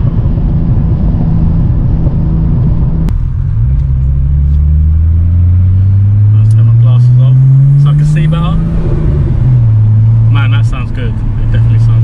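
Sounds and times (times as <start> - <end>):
turbocharged car engine under load: 0.0 - 12.0.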